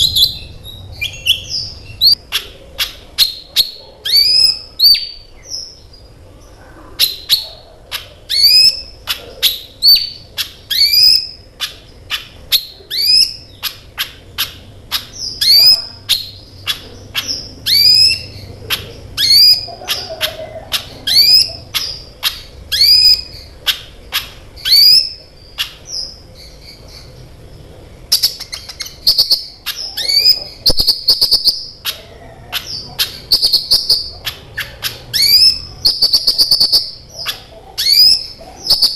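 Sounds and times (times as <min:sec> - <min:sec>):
sunbird chirping and trilling: 0:00.0 - 0:38.9.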